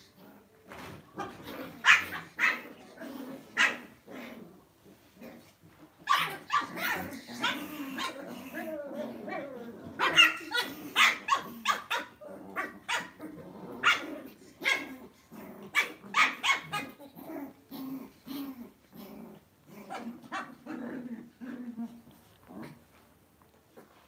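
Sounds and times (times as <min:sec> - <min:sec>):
dogs growling: 0:01.2 - 0:23.0.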